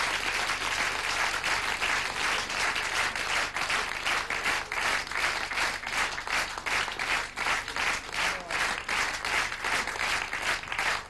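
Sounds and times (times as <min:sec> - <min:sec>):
audience clapping in unison: 0:00.0 - 0:11.0.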